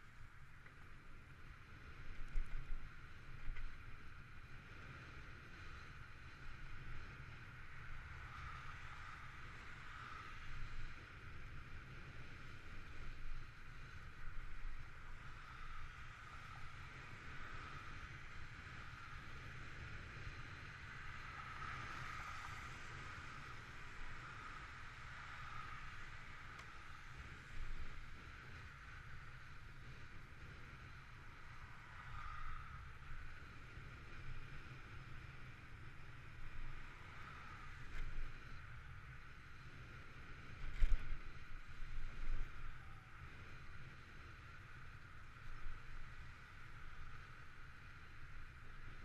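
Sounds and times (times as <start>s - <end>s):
wind rumbling on microphone: 0.0s - 49.0s.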